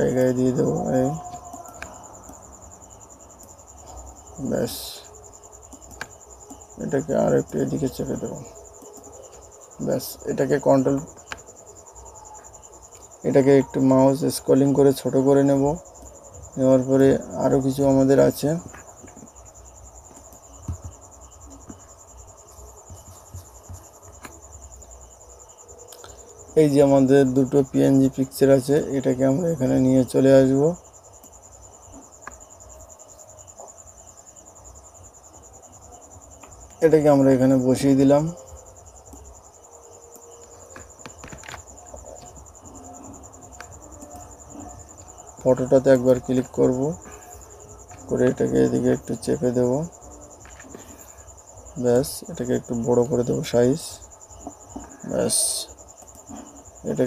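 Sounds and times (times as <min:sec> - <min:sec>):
cricket trilling: 0:00.0 - 0:57.0.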